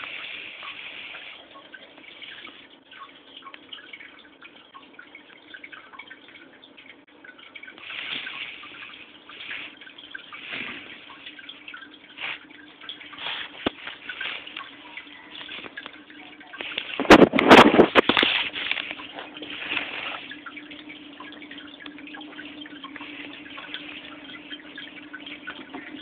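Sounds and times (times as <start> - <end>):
aquarium water trickling: 0.0 - 26.0.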